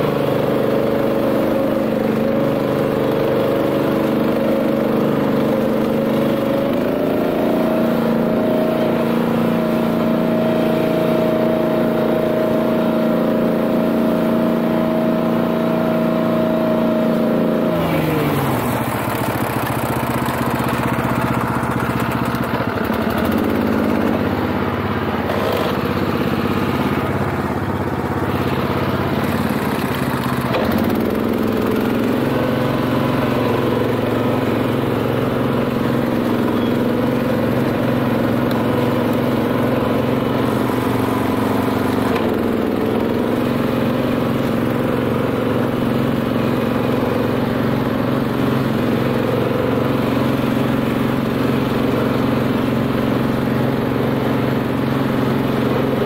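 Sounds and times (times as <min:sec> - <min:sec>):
flail mower cutting grass: 0:00.0 - 0:56.0
tractor engine running: 0:00.0 - 0:56.0.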